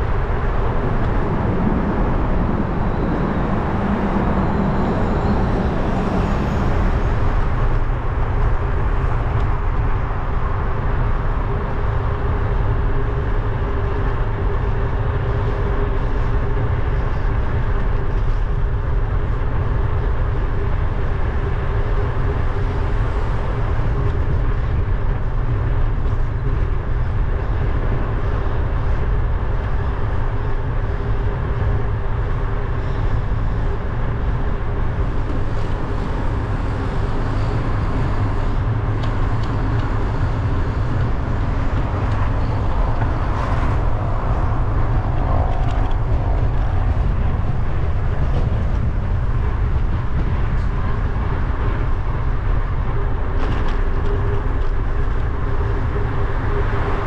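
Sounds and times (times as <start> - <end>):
road and traffic noise: 0.0 - 57.0
wind buffeting microphone: 0.0 - 57.0.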